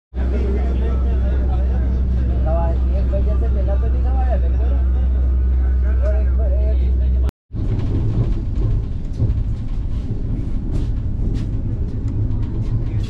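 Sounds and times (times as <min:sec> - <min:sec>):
train rumble and hum: 0:00.2 - 0:13.0.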